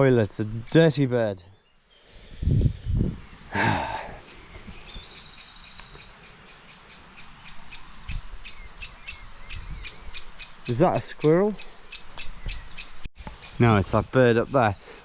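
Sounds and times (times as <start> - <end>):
bird trilling and calling: 1.6 - 15.0.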